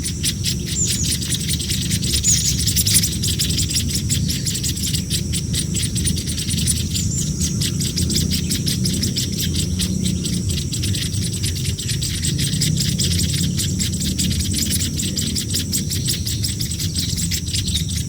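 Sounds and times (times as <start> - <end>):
nestlings chirping: 0.0 - 18.0
steady low rumble: 0.0 - 18.0.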